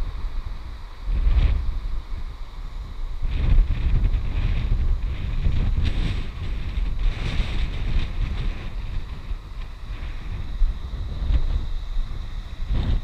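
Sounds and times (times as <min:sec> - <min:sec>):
wind gusting on microphone: 0:00.0 - 0:13.0.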